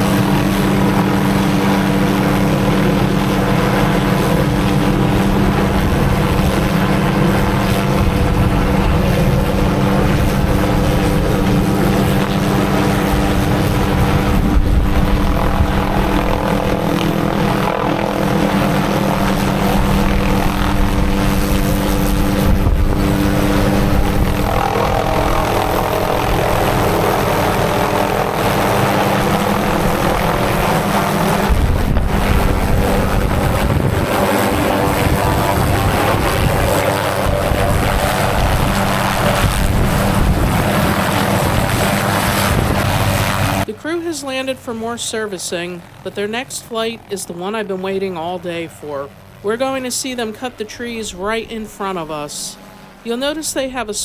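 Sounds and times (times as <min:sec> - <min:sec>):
helicopter running: 0:00.0 - 0:54.0.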